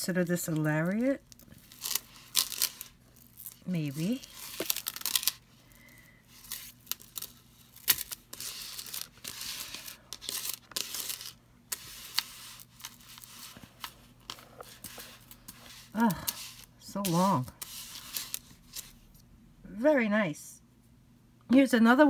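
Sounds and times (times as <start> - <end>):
bead strands rustling and clicking: 0.3 - 19.0.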